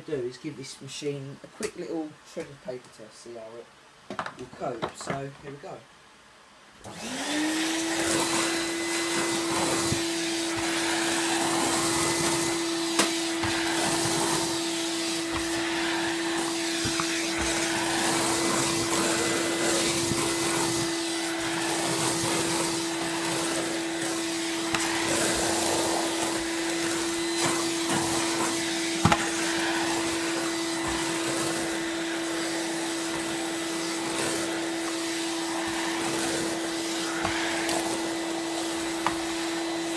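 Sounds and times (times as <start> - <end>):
vacuum cleaner motor: 6.8 - 39.9.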